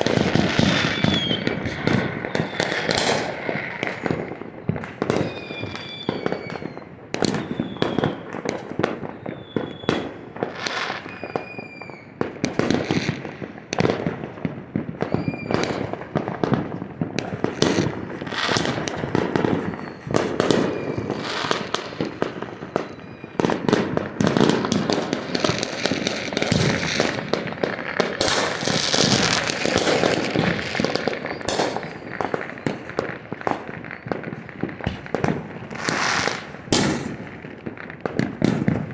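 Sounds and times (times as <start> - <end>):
fireworks whistling: 0.0 - 13.3, 14.9 - 38.9
fireworks bangs and pops: 0.0 - 38.9
fireworks crackling: 0.0 - 38.9.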